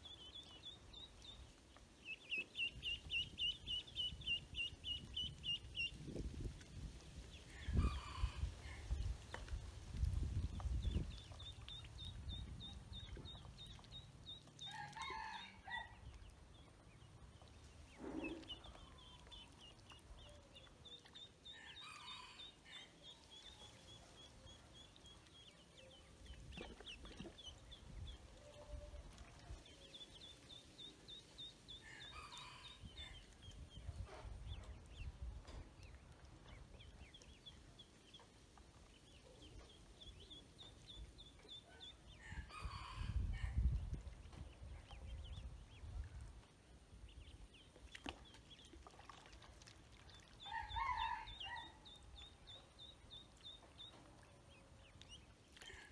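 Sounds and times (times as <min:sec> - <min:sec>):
ducklings peeping: 0:00.0 - 0:15.0, 0:16.0 - 0:49.3, 0:50.1 - 0:55.9.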